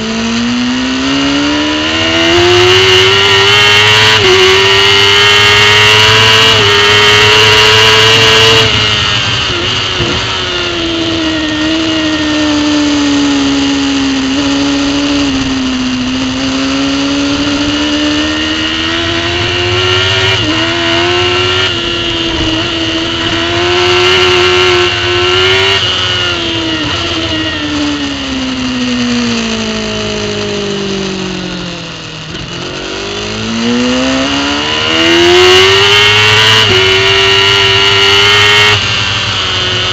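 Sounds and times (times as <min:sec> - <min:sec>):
superbike engine revving: 0:00.0 - 0:39.9.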